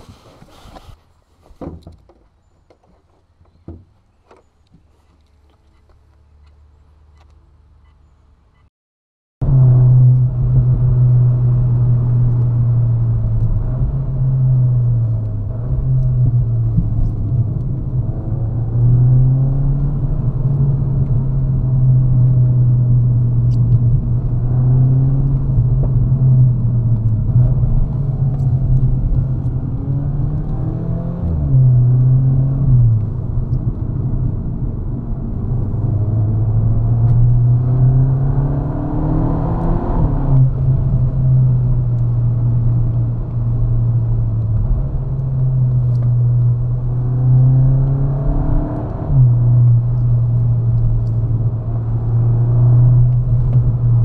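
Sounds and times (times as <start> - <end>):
car engine drone from cabin: 9.4 - 54.0.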